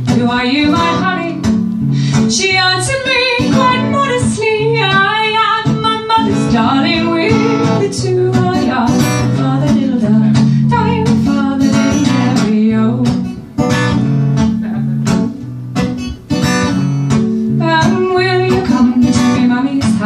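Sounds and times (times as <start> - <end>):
acoustic guitar accompaniment: 0.0 - 20.0.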